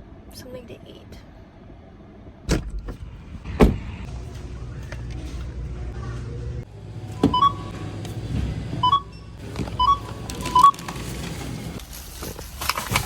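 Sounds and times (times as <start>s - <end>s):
car engine rumble: 1.6s - 13.0s.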